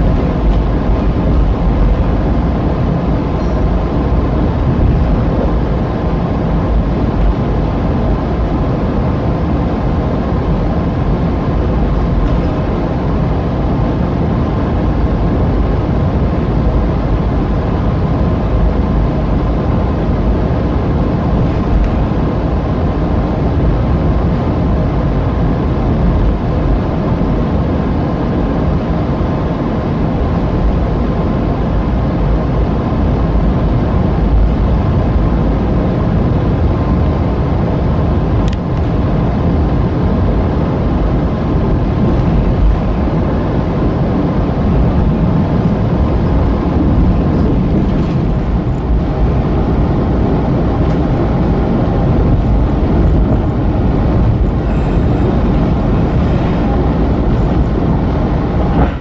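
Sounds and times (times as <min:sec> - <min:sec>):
train running: 0:00.0 - 0:59.0.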